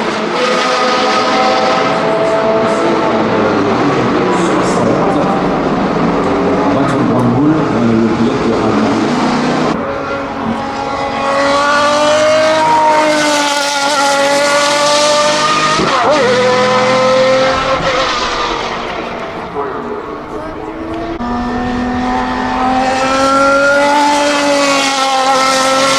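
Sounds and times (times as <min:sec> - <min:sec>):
race car engine revving: 0:00.0 - 0:25.9.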